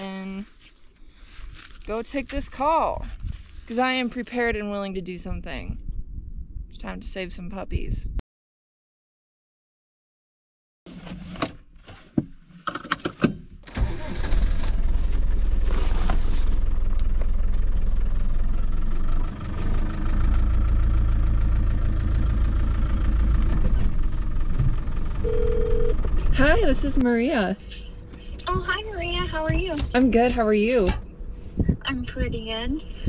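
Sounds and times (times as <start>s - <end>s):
engine low rumble: 0.0s - 8.2s, 13.4s - 33.0s.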